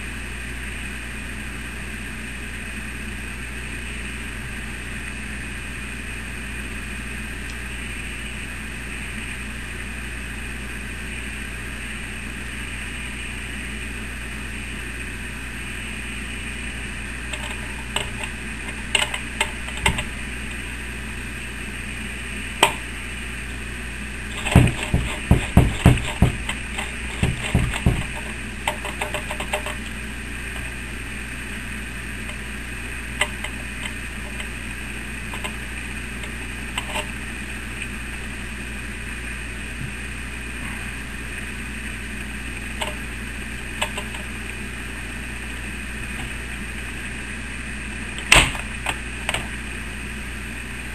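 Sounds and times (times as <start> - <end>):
steady machine hum: 0.0 - 50.9.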